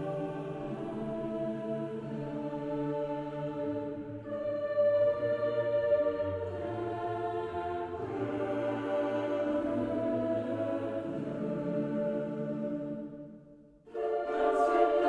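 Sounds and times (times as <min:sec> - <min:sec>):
choir-like voices holding chords: 0:00.0 - 0:15.0.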